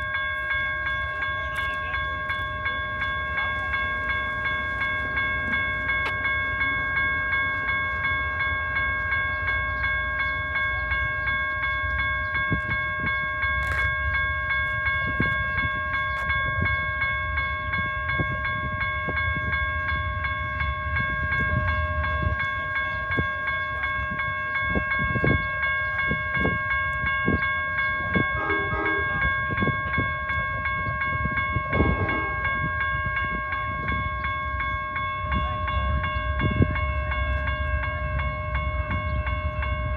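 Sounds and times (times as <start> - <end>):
diesel train engines rumbling: 0.0 - 39.9.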